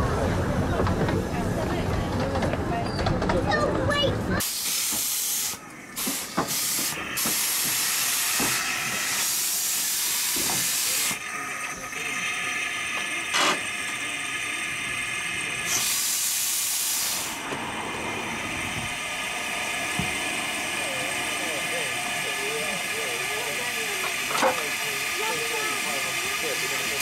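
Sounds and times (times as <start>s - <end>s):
steam locomotive hissing steam: 4.4s - 27.0s.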